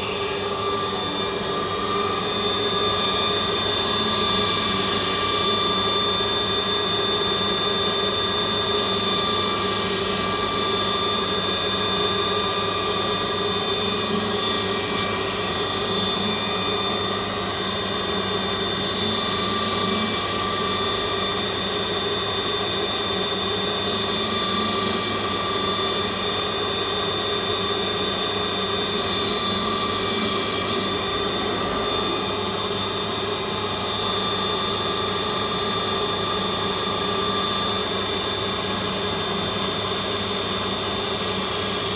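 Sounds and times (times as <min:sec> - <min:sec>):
lathe motor whine: 0:00.0 - 0:41.9.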